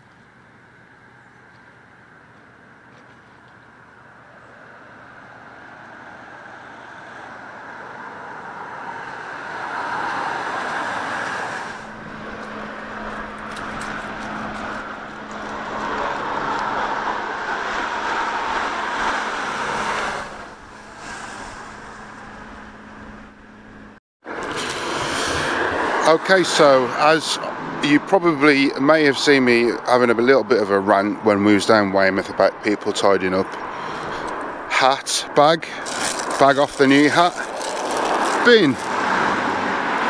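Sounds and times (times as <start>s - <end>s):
cars passing: 0.3s - 40.0s.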